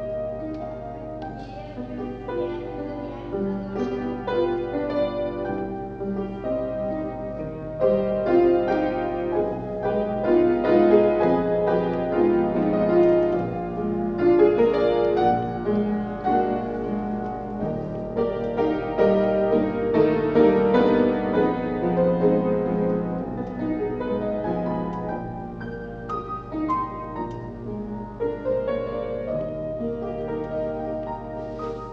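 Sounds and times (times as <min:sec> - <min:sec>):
slow classical piano: 0:00.0 - 0:31.9.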